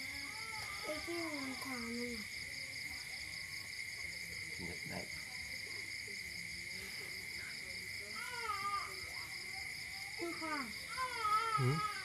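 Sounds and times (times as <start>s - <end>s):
faint voices: 0.0s - 12.0s
insects trilling: 0.0s - 12.0s.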